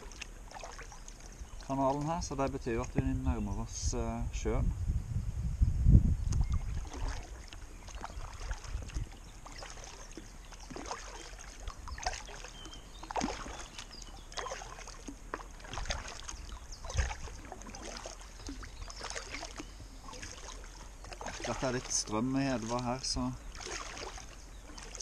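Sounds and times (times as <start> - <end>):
kayak paddle strokes: 0.0 - 3.1, 6.4 - 25.0
water splashing and dripping: 0.0 - 3.1, 6.2 - 25.0.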